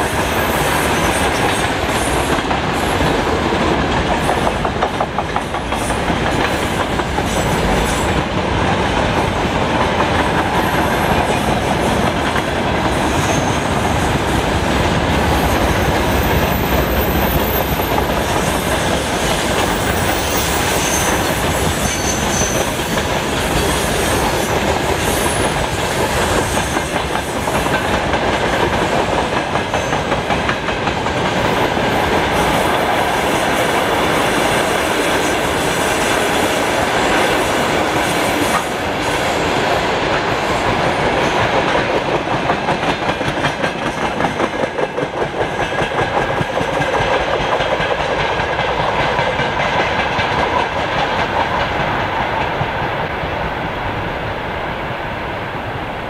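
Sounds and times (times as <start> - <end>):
train wheels clattering over rails: 0.0 - 53.1.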